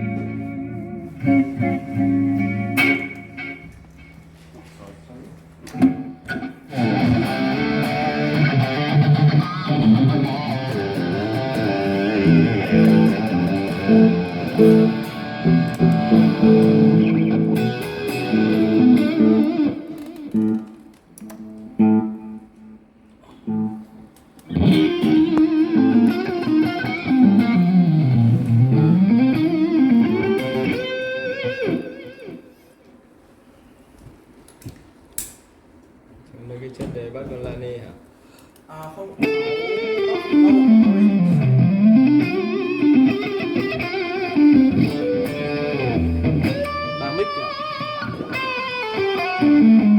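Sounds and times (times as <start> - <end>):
electric guitar lead phrases: 0.0 - 22.8, 23.4 - 32.8, 39.2 - 49.9.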